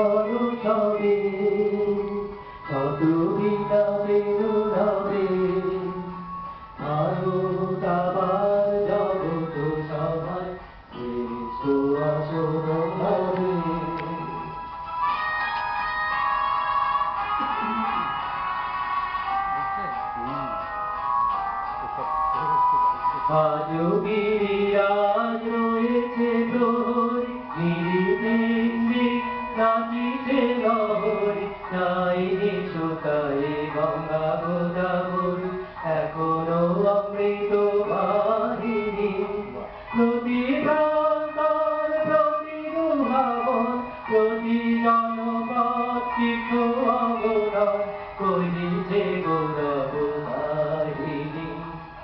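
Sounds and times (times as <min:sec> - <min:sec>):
man singing into microphone: 0:00.0 - 0:14.6, 0:22.0 - 0:52.0.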